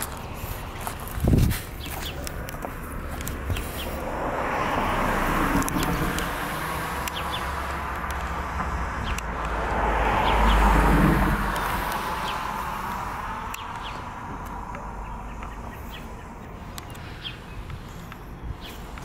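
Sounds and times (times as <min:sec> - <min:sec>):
birds chirping: 0:00.0 - 0:19.0
vehicle passing: 0:00.0 - 0:19.0.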